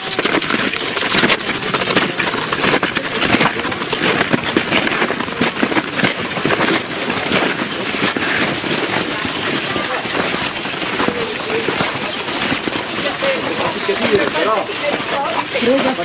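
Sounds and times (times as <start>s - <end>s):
snowshoe footsteps crunching snow: 0.0s - 16.0s.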